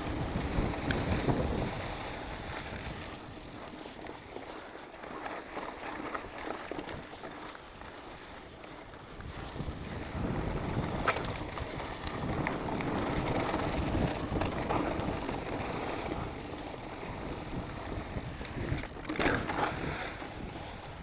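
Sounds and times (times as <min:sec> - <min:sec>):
bike rattling: 0:00.0 - 0:21.0
tyres rumbling on dirt: 0:00.0 - 0:21.0
wind buffeting microphone: 0:00.0 - 0:21.0.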